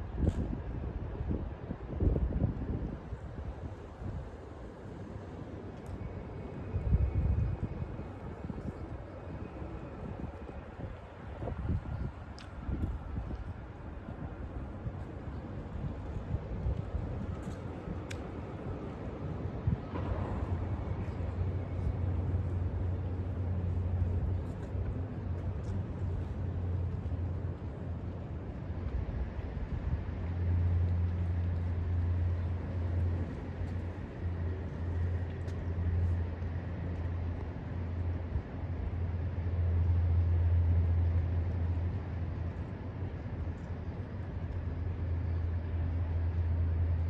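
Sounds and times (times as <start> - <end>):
low city rumble: 0.0 - 47.0.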